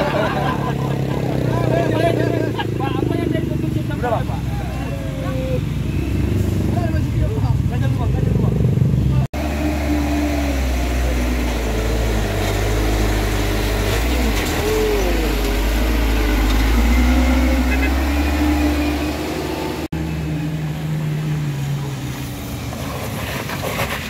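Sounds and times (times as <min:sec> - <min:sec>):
truck diesel engine labouring: 0:00.0 - 0:24.0.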